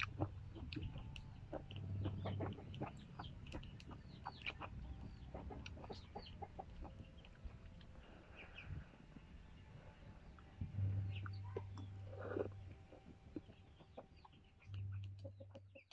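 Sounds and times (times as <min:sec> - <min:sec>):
person chewing: 0:00.0 - 0:08.1, 0:10.3 - 0:15.2
chickens clucking: 0:00.0 - 0:15.9.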